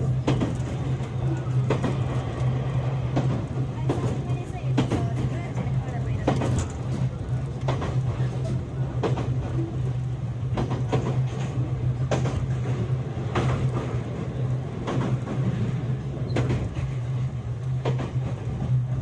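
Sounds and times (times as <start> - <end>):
train motor hum: 0.0 - 19.0
wheels clacking over rail joints: 0.0 - 19.0.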